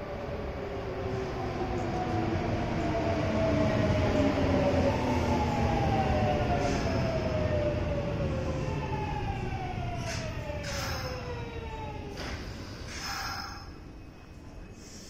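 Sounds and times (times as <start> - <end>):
electric train rumble and whine: 0.0 - 15.0.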